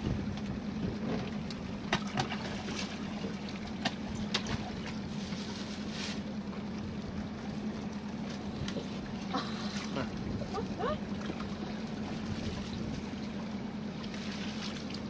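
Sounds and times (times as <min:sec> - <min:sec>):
boat motor humming: 0:00.0 - 0:15.0
water wash: 0:00.0 - 0:15.0.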